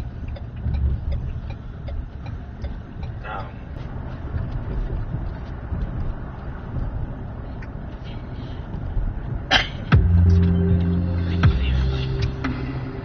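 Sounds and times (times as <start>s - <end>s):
car road and engine rumble: 0.0s - 13.0s
music on car stereo: 0.0s - 13.0s.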